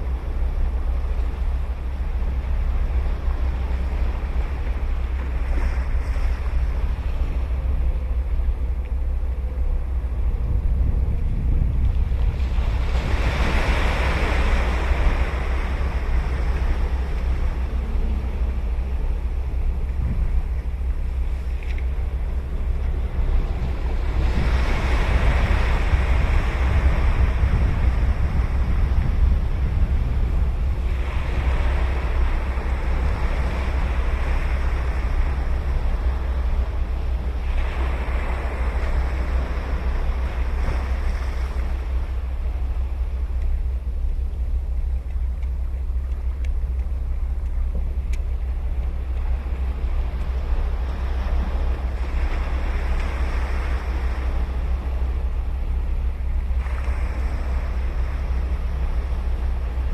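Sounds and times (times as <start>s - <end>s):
ocean waves breaking on a beach: 0.0s - 59.9s
wind rumble on microphone: 0.0s - 59.9s.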